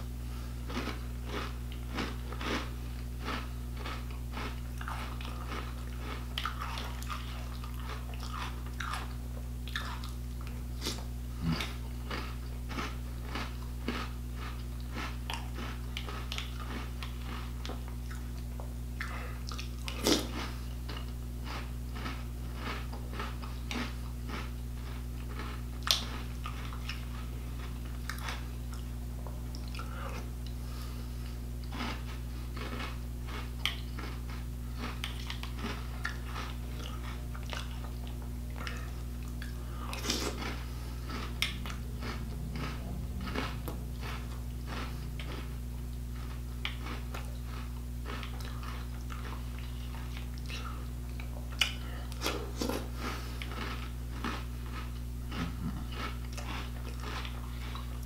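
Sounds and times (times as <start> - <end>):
steady low hum: 0.0 - 58.0
person crunching cereal: 0.6 - 18.3, 19.0 - 28.9, 29.6 - 58.0.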